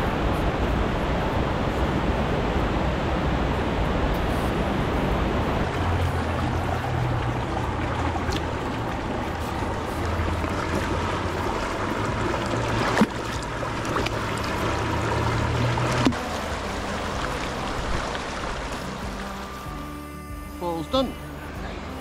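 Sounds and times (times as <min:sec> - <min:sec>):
low rumble: 0:00.0 - 0:22.0
river water rushing: 0:00.0 - 0:22.0.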